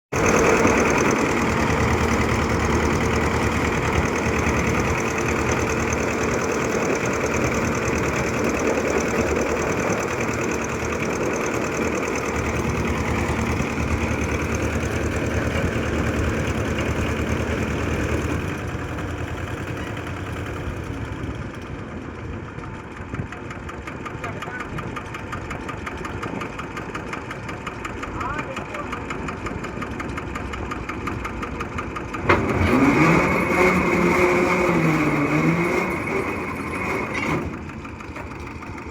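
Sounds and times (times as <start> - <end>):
heavy machine engine running: 0.1 - 38.9.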